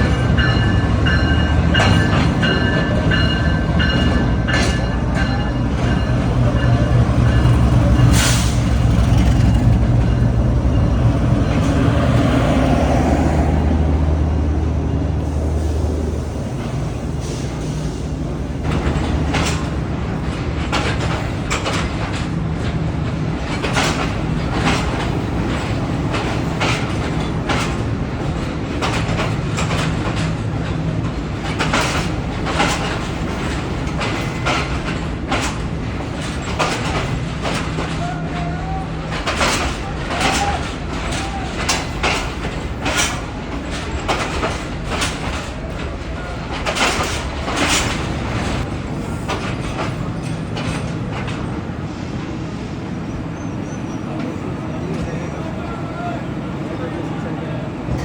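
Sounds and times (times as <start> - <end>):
train wheels clacking over rail joints: 0.0 - 13.9, 15.2 - 52.1.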